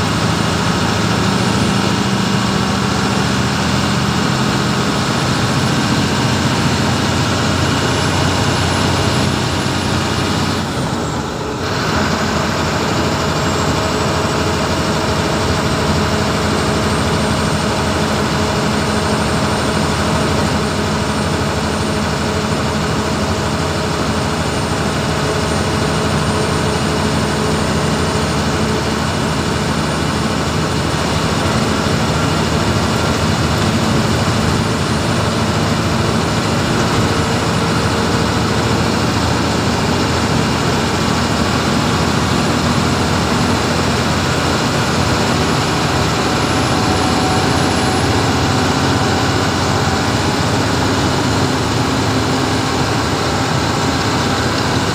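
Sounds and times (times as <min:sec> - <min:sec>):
bus engine drone: 0:00.0 - 0:54.9
road noise: 0:00.0 - 0:54.9.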